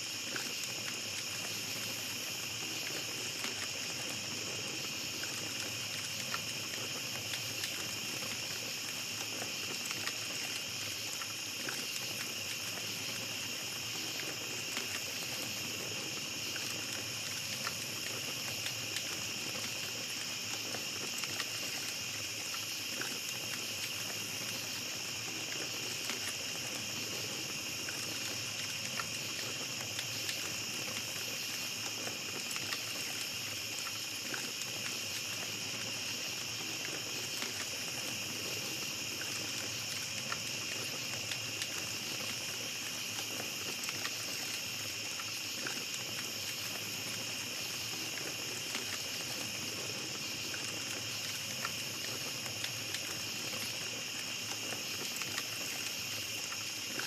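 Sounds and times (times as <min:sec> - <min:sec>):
campfire crackling: 0:00.0 - 0:57.0
night insects chorus: 0:00.0 - 0:57.0.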